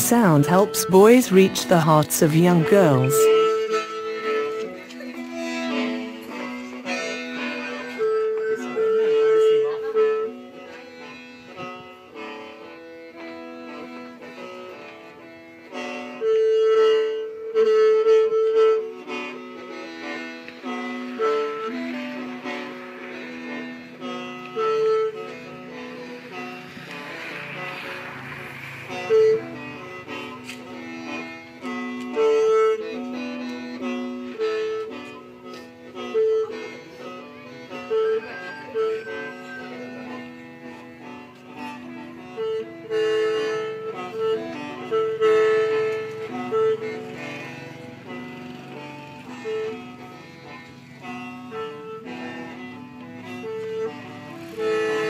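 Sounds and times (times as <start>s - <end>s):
mouth organ melody over drone: 0.0s - 55.0s.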